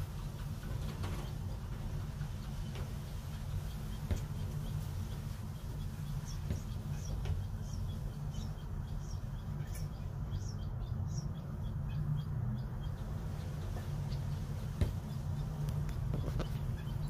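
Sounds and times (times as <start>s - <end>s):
birds pecking ceramic dishes: 0.0s - 17.0s
steady low hum: 0.0s - 17.0s
quail cheeping: 1.0s - 17.0s.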